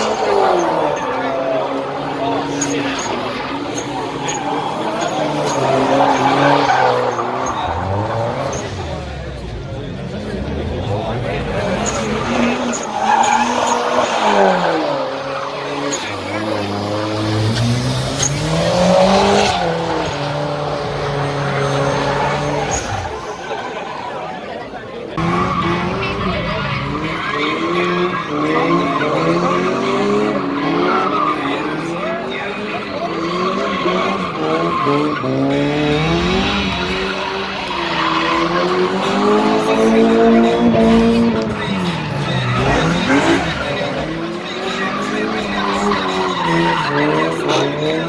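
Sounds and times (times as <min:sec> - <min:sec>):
tyres squealing: 0:00.0 - 0:09.1, 0:09.8 - 0:48.0
car engine accelerating: 0:00.0 - 0:48.0.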